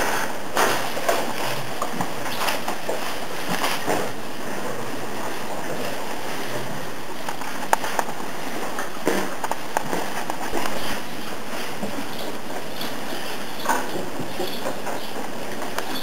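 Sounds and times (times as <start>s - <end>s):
cows chewing hay: 0.0s - 16.0s
steady background hiss: 0.0s - 16.0s.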